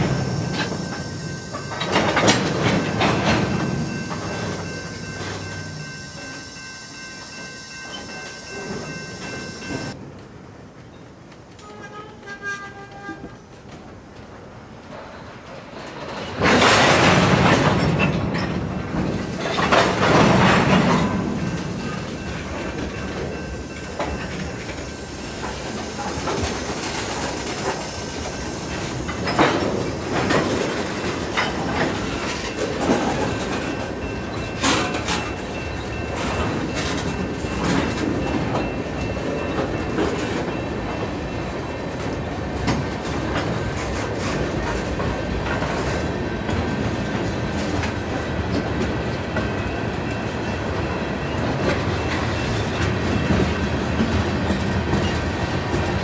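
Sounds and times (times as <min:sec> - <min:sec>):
wheels clacking over rail joints: 0:00.0 - 0:10.0, 0:13.0 - 0:56.0
freight train rumbling past: 0:00.0 - 0:10.9, 0:13.2 - 0:56.0.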